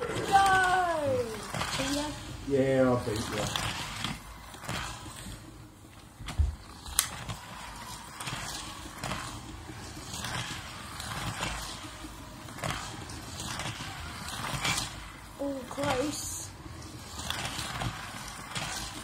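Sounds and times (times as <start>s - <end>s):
slot car motors whirring: 0.0s - 19.0s.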